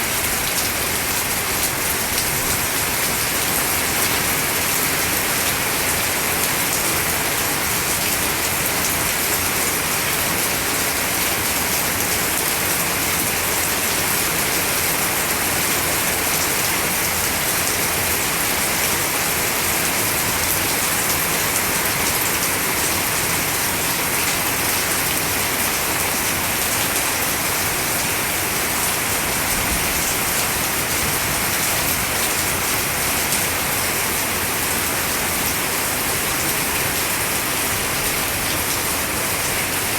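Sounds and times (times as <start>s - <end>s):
rain on wet foliage: 0.0s - 39.9s.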